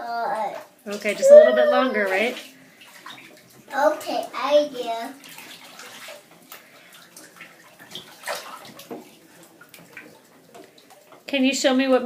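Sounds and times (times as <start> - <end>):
bathwater splashing: 0.0 - 12.0.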